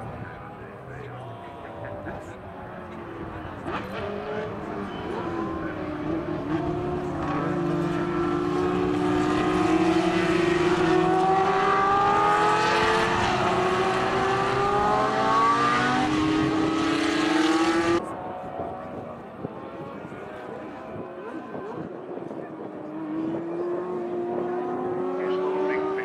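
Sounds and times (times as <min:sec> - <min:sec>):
racing cars passing at high revs: 0:01.7 - 0:26.0.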